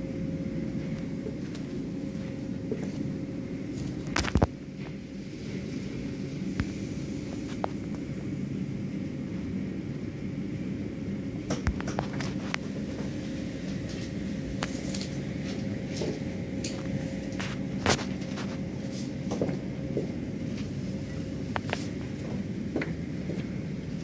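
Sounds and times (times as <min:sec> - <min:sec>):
car wash machinery rumble: 0:00.0 - 0:24.0.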